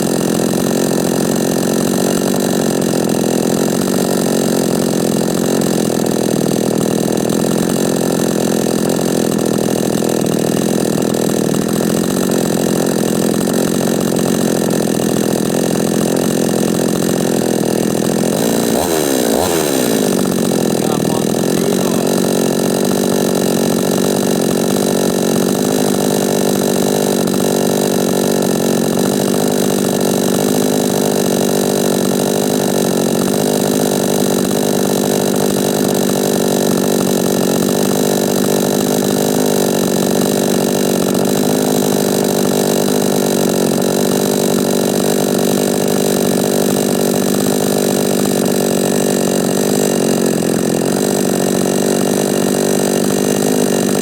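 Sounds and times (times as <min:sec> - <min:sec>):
two-stroke chainsaw running: 0:00.0 - 0:54.0.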